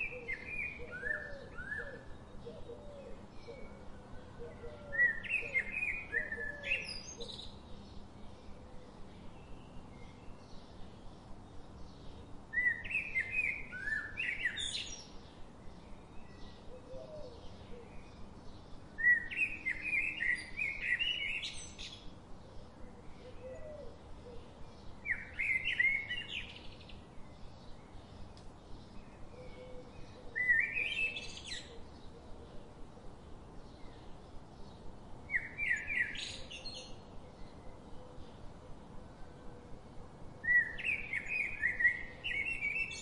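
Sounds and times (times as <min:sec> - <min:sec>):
low steady hiss: 0:00.0 - 0:43.0.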